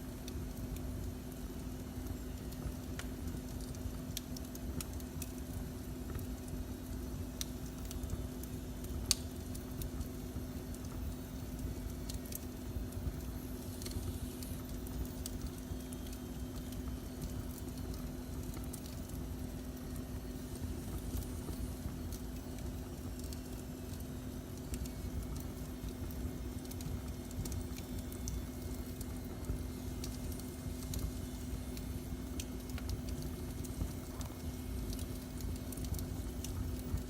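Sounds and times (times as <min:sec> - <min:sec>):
low rumble and hum: 0:00.0 - 0:37.0
wood fire crackling: 0:00.0 - 0:37.0.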